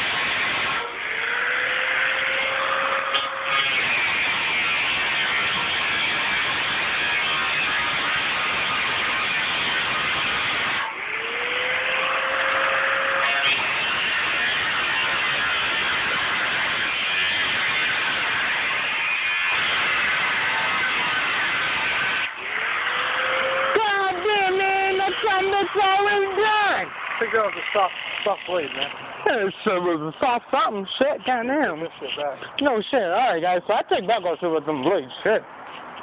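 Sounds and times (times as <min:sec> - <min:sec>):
angle grinder cutting metal: 0:00.0 - 0:35.0.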